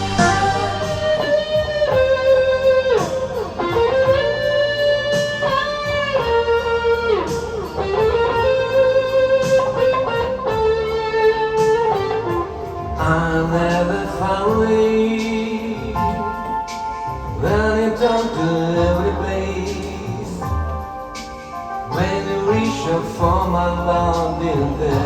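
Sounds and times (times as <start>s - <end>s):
bass: 0.0s - 25.0s
electric guitar lead: 0.0s - 25.0s
steady beat: 0.0s - 25.0s.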